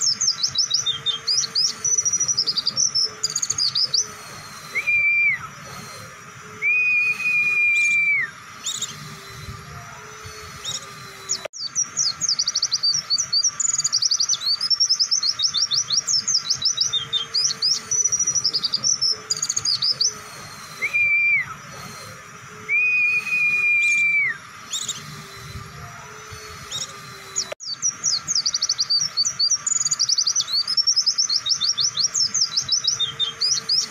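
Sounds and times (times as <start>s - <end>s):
bird singing rapid chirps: 0.0s - 33.9s
long whistled bird notes: 0.0s - 33.9s.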